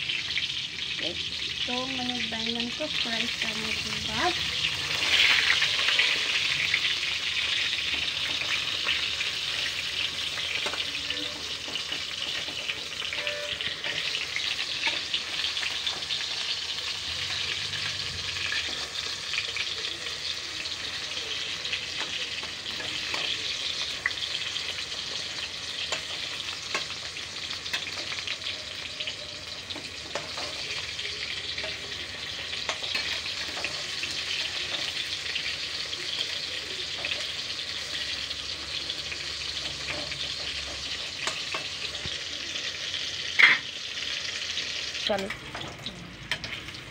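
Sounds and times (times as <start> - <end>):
vegetable slices sizzling in oil: 0.0 - 46.9.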